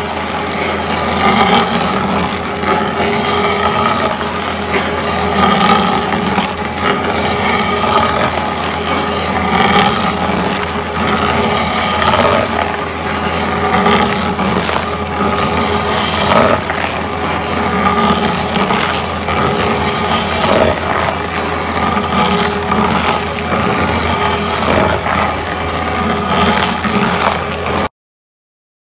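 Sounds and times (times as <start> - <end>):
cutter wheel grinding wood: 0.0 - 27.9
machine engine running under load: 0.0 - 27.9.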